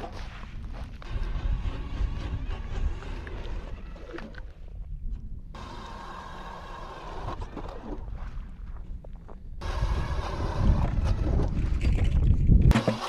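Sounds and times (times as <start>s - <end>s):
wind buffeting microphone: 0.0s - 5.6s, 7.1s - 12.8s.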